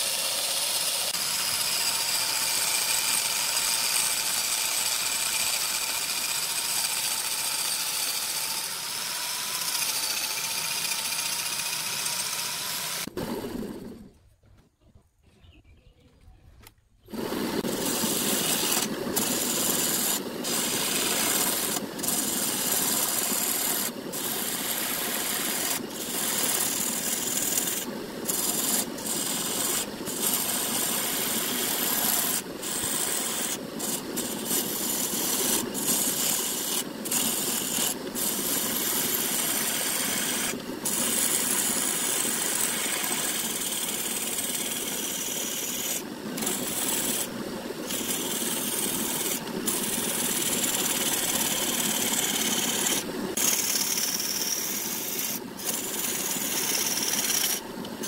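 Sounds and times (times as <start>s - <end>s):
lathe tool scraping wood: 0.0s - 14.1s, 17.1s - 58.0s.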